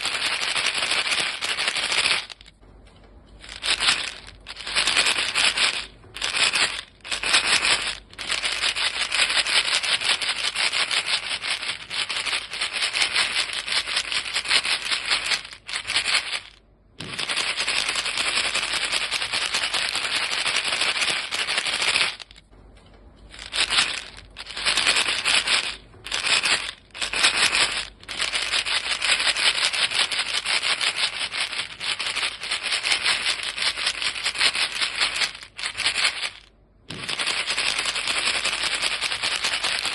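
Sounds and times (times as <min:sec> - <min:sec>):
gum pellets rattling in box: 0:00.0 - 0:02.6, 0:03.4 - 0:22.5, 0:23.3 - 0:39.9.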